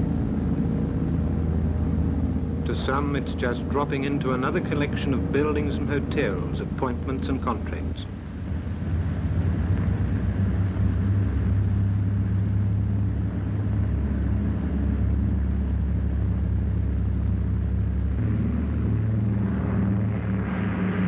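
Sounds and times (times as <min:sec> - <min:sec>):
piston engines droning: 0:00.0 - 0:21.0.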